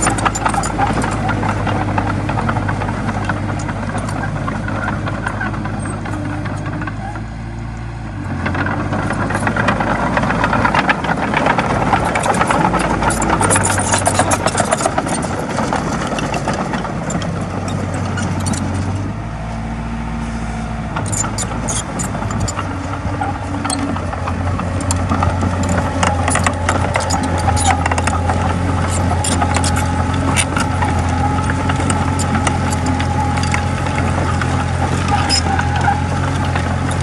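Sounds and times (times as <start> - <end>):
metallic clatter and rattling: 0.0 - 7.3, 8.3 - 19.1, 21.0 - 37.0
bulldozer diesel engine running: 0.0 - 37.0.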